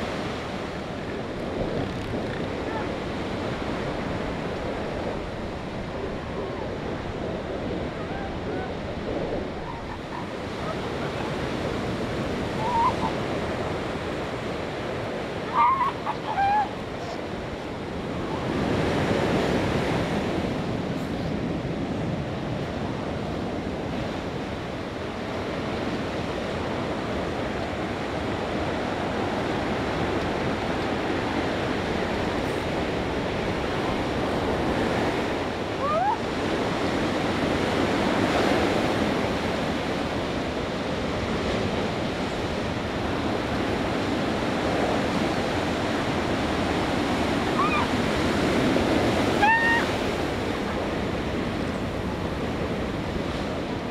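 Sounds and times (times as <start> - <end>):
ocean surf breaking: 0.0 - 53.9.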